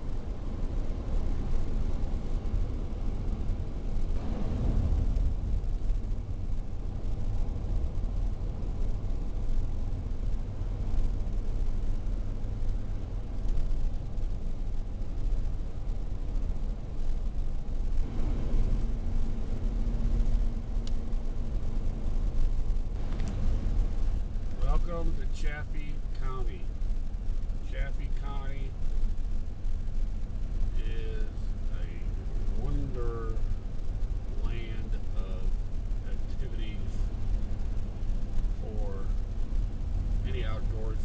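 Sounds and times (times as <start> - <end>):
car interior road rumble: 0.0 - 41.0
faint steady hum: 0.0 - 41.0.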